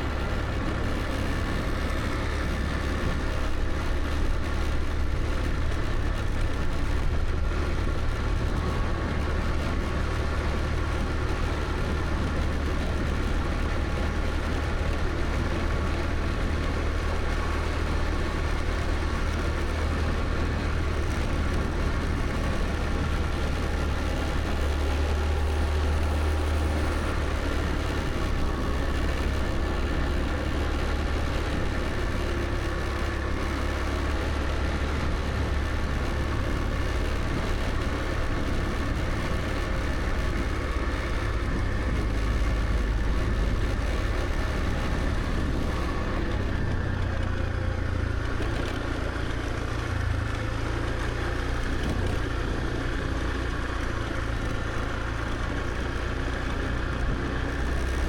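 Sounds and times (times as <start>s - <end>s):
motor scooter engine hum: 0.0s - 58.0s
road noise: 0.0s - 58.0s.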